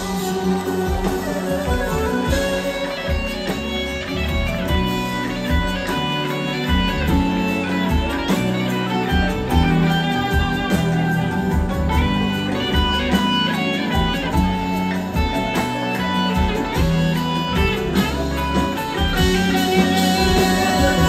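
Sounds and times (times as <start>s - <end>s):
live band playing pop music: 0.0s - 21.0s.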